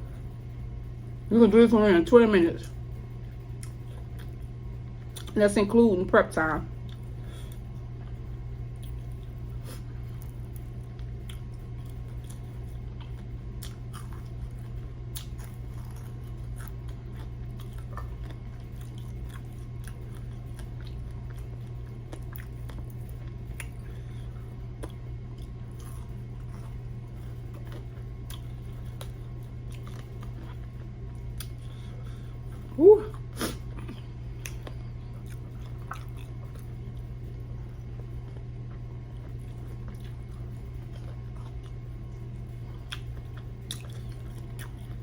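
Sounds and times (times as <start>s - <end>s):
steady low hum: 0.0s - 45.0s
person chewing crispy chicken: 3.4s - 5.4s, 6.8s - 45.0s.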